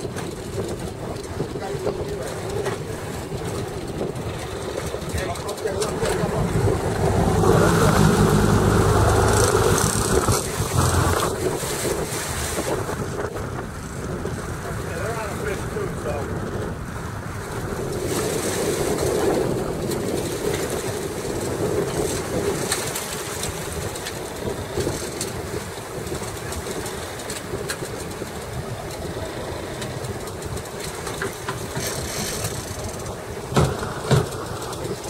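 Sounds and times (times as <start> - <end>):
boat engine running: 0.0 - 35.0
sea and wind noise: 0.0 - 35.0.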